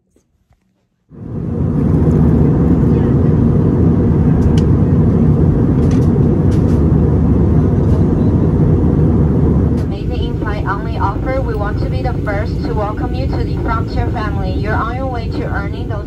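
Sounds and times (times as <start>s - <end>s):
airliner cabin roar: 1.1s - 16.0s.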